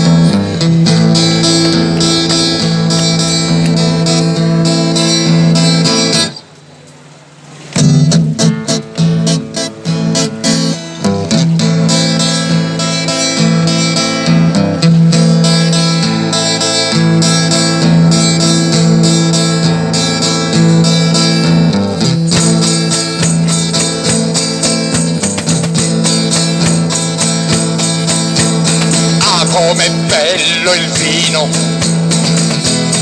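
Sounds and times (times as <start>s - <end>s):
strummed guitar music: 0.0s - 33.0s.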